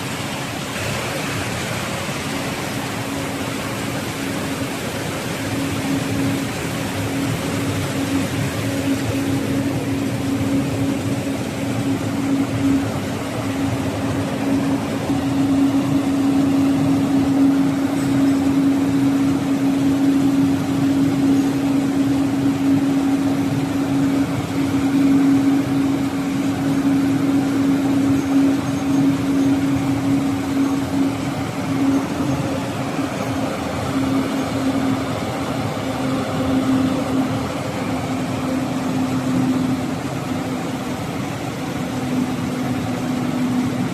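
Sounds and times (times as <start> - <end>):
machine hum with constant tone: 0.0 - 43.9.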